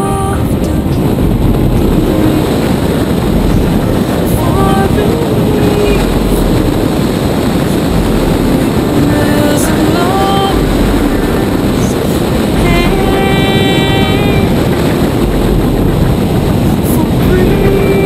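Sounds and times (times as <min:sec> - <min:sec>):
person singing long notes: 0:00.0 - 0:18.0.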